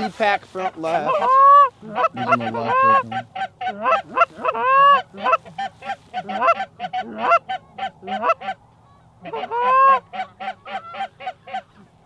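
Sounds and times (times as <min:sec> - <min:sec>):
goose honking and clucking: 0:00.0 - 0:08.6, 0:09.2 - 0:12.0.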